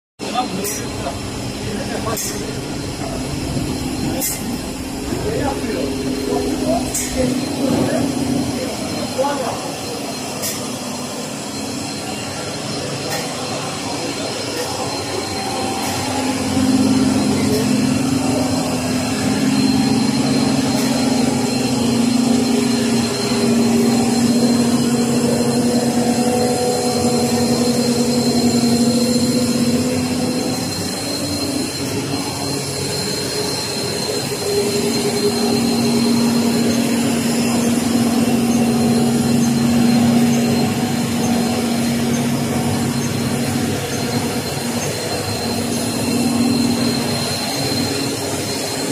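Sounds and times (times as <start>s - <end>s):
production line machinery hum: 0.2s - 48.9s.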